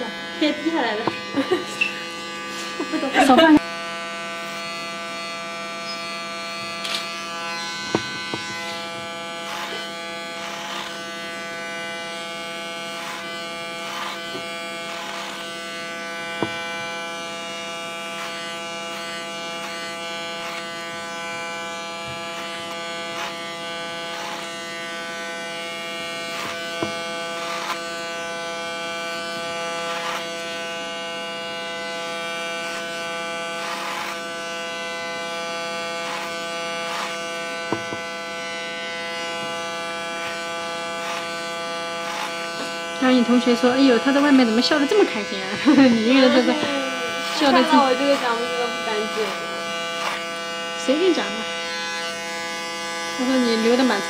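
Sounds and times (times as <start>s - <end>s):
clippers rasping through hair: 0.0s - 54.0s
electric hair clippers buzzing: 0.0s - 54.0s.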